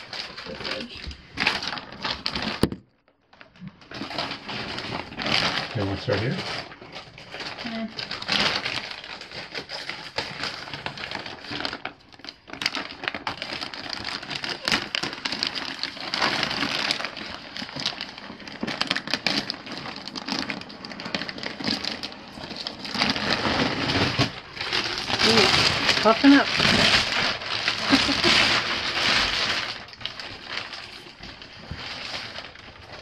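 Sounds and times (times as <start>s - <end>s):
plastic wrapping crinkling: 0.0s - 33.0s.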